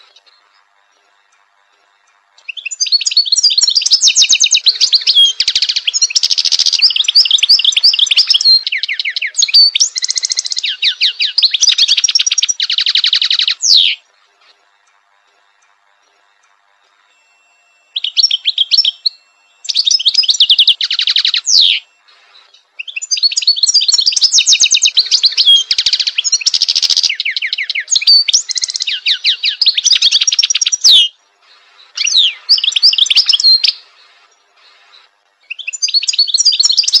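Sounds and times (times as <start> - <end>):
goldfinch twittering song: 0.0 - 14.1, 15.7 - 37.0.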